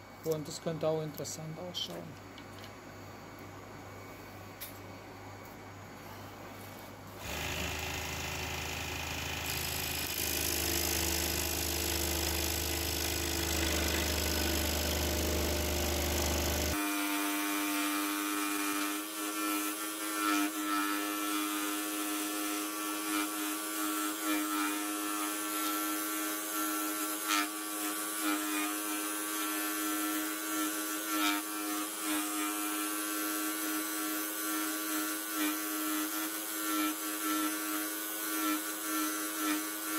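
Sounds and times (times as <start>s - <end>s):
scroll saw cutting wood: 7.2s - 39.9s.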